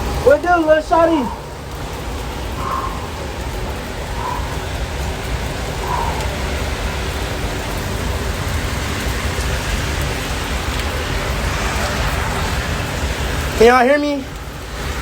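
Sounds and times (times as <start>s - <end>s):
heavy rain pouring: 0.0s - 15.0s
low rumble: 1.9s - 15.0s.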